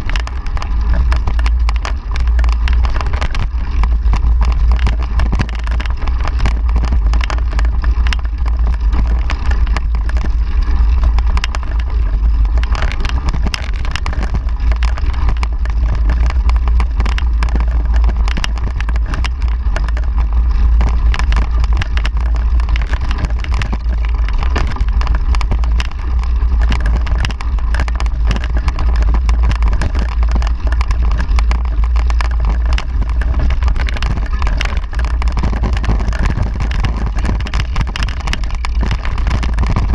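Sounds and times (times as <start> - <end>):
bike clicks and rattles: 0.0 - 39.9
wind and vibration rumble: 0.0 - 39.9.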